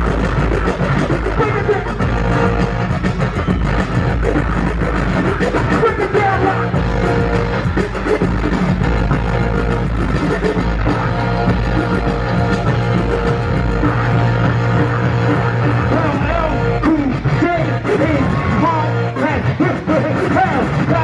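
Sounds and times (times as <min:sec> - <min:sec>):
live hip-hop music: 0:00.0 - 0:21.0.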